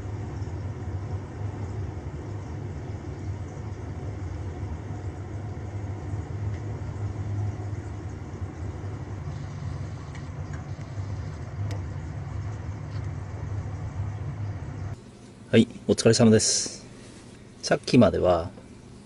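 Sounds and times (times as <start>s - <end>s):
gas burner rumble: 0.0s - 19.0s.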